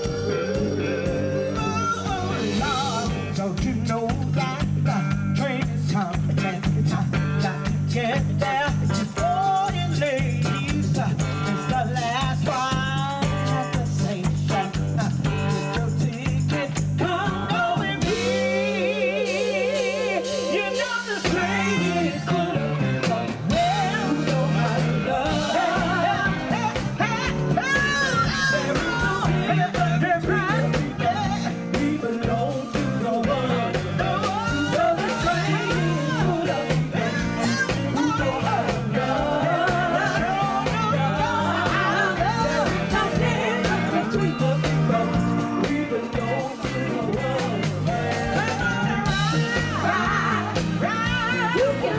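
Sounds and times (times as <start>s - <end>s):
band with drums: 0.0s - 51.9s
women singing gospel: 0.0s - 51.9s.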